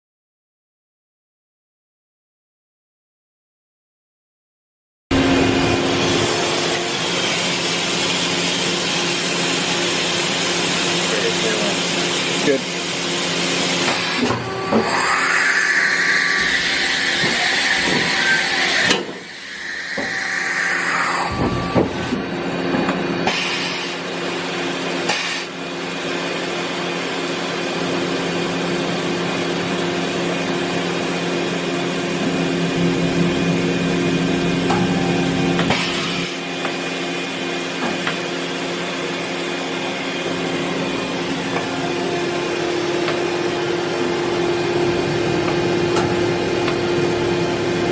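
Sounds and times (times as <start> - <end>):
machining center whine and hum: 5.1 - 47.9.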